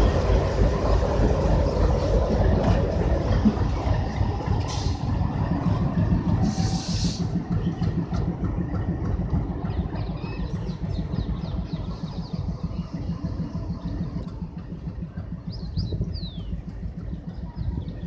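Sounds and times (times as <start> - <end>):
diesel locomotive engine throbbing: 0.0 - 18.0.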